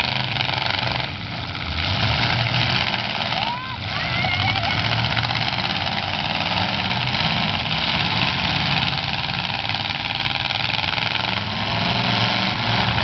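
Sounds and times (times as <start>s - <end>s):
car engines roaring: 0.0s - 13.0s.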